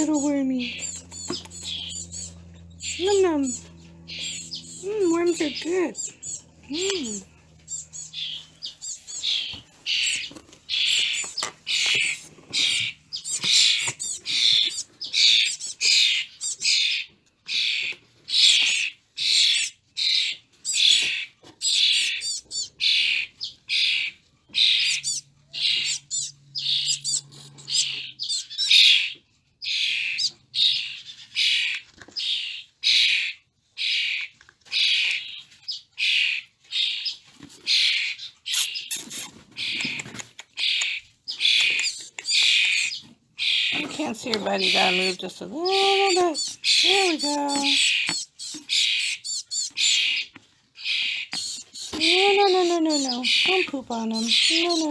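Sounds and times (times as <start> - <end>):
baby birds begging calls: 0.0 - 54.9.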